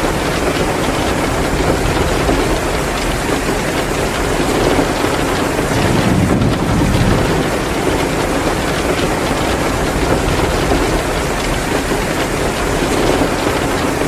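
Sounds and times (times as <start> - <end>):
heavy rain pouring: 0.0 - 14.0
wood fire crackling: 0.0 - 14.0.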